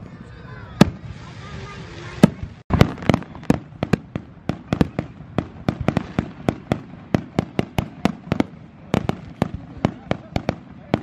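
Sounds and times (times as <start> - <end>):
firecrackers popping: 0.0 - 11.0.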